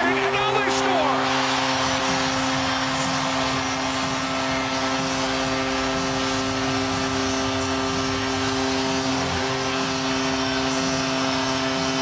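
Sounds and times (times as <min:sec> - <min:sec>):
crowd cheering: 0:00.0 - 0:12.0.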